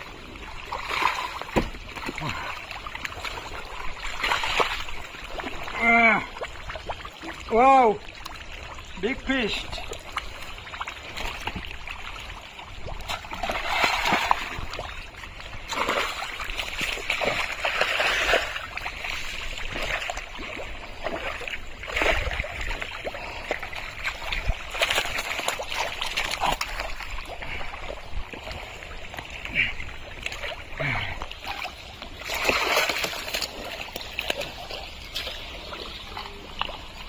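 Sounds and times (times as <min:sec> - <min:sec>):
splashing and squelching in mud: 0:00.0 - 0:37.0.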